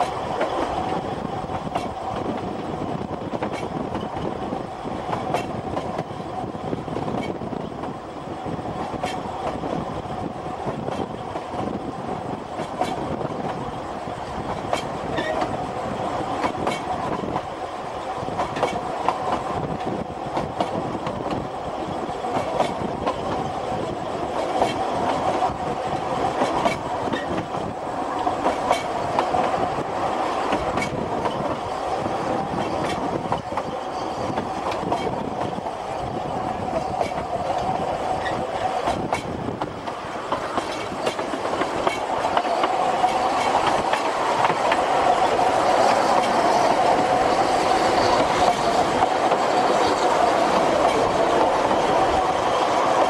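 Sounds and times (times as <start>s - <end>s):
moving train rumble: 0.0s - 53.0s
train wheels clicking over rail joints: 0.0s - 53.0s.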